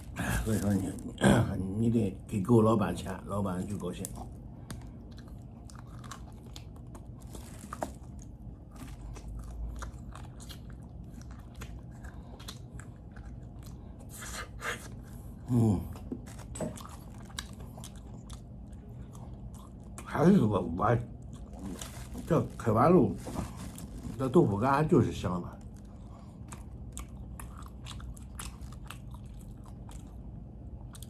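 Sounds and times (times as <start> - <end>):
person chewing crunchy food: 3.6 - 24.6, 25.6 - 31.0.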